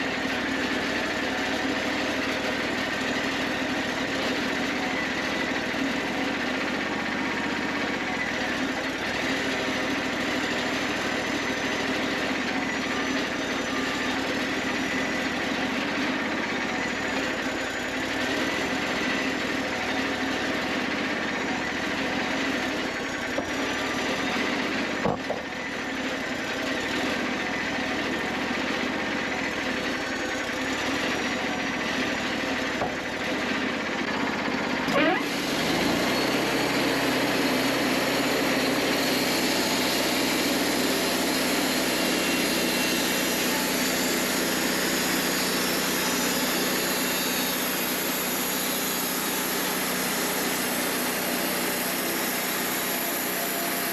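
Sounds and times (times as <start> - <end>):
band sawmill engine running: 0.0 - 53.9.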